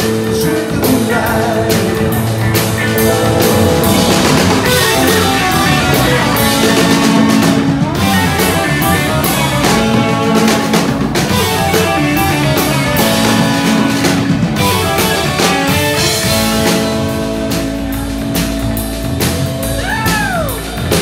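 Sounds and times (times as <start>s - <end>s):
drum kit steady beat: 0.0s - 21.0s
electric guitars sustaining notes: 0.8s - 19.9s.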